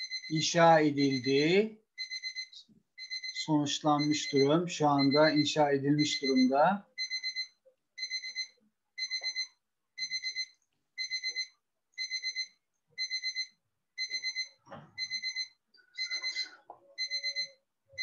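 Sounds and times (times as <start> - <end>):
alarm clock beeping: 0.0 - 18.0.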